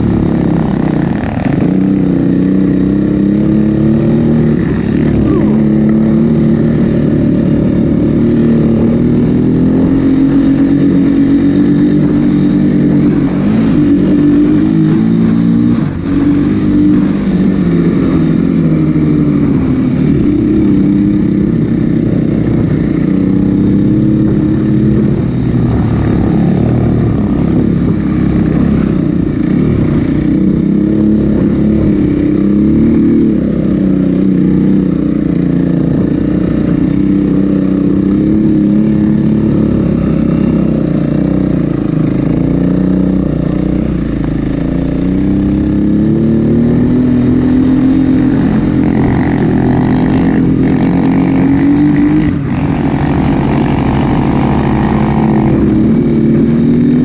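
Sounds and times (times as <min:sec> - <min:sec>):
snowbike engine revving: 0:00.0 - 0:57.0.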